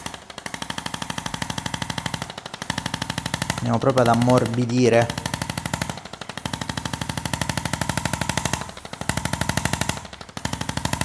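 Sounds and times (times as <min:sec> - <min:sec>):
massage gun tapping: 0:00.0 - 0:11.0
motor whine: 0:00.0 - 0:11.0.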